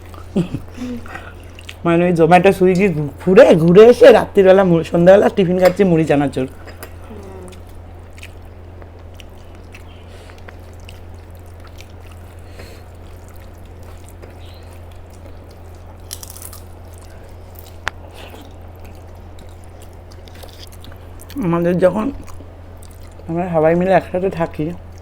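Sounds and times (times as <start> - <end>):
soft wet eating sounds: 0.0 - 3.8, 4.9 - 25.0
steady low hum: 0.0 - 25.0.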